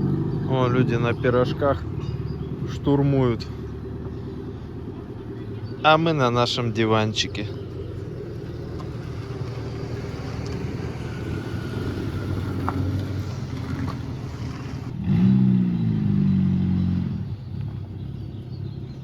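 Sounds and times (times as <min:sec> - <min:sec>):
engine revving: 0:00.0 - 0:19.0
vehicle cabin road rumble: 0:00.0 - 0:19.0.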